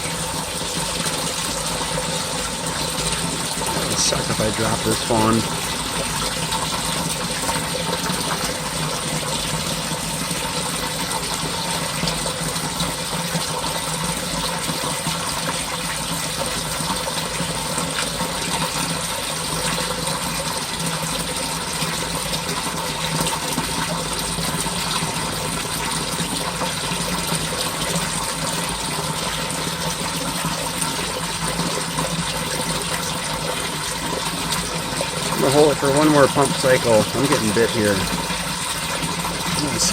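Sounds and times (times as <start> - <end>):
water gushing in a pit: 0.0 - 39.9.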